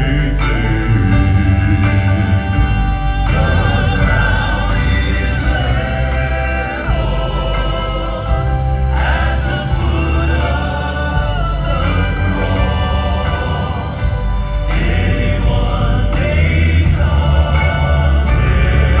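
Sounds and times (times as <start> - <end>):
choir vocal harmony: 0.0 - 19.0
gospel band with strong bass: 0.0 - 19.0.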